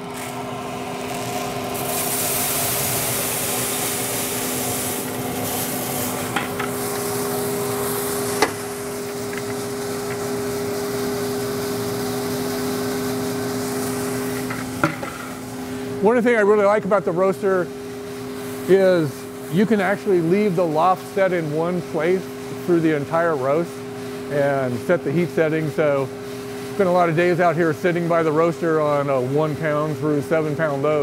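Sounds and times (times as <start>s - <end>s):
blower humming: 0.0s - 31.0s
coffee beans pouring hiss: 0.0s - 31.0s.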